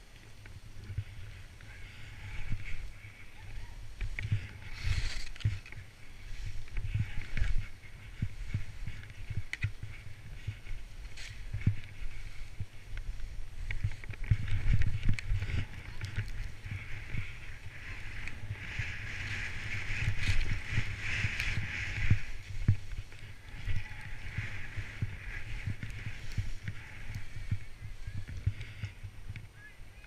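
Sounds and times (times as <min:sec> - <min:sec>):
skis scraping over snow: 0:00.2 - 0:29.3.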